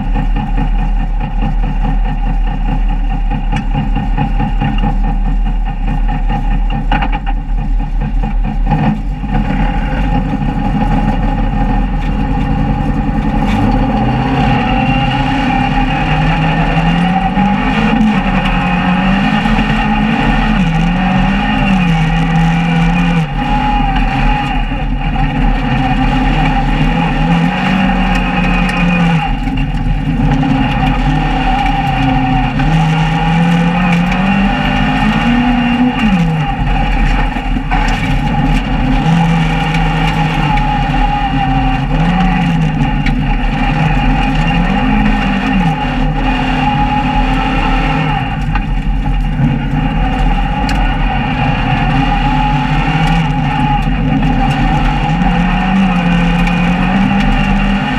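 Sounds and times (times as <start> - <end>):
rally car engine accelerating: 0.0 - 57.9.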